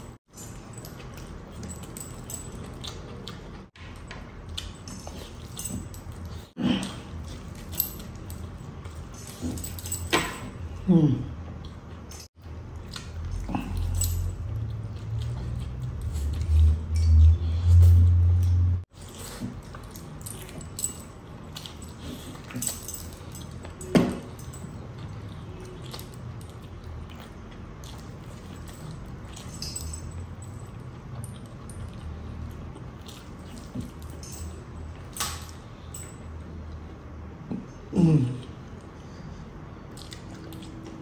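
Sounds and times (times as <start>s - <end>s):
chewing and wet mouth noises: 0.0s - 9.6s, 10.6s - 23.9s, 24.6s - 35.2s, 36.2s - 41.0s.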